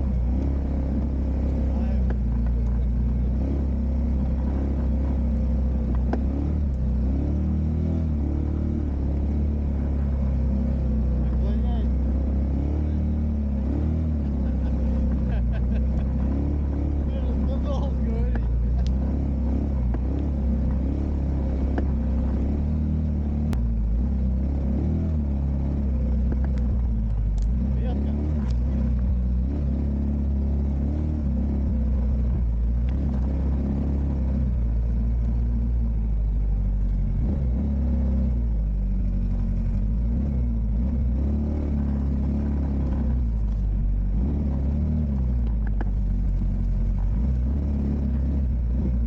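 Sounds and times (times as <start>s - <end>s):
vehicle engine droning: 0.0s - 49.0s.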